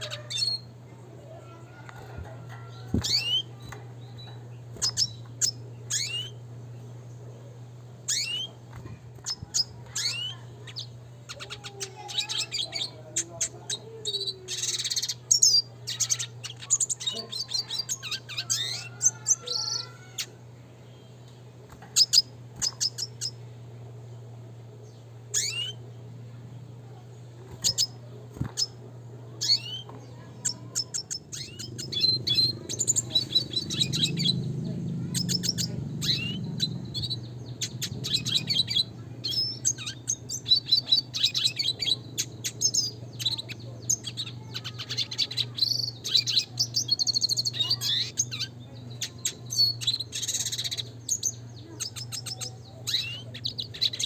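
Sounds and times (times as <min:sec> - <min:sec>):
bird singing chirps and trills: 0:00.0 - 0:54.0
steady low hum: 0:00.0 - 0:54.0.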